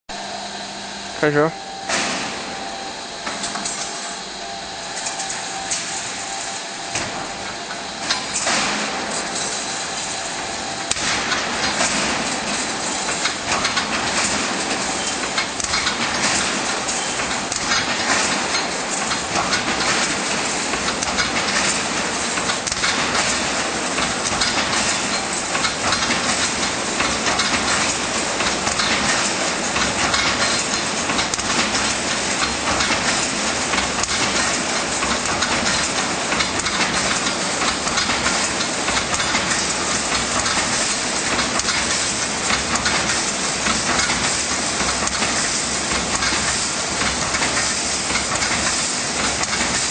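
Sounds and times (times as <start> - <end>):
machine metallic clatter: 1.8 - 49.9.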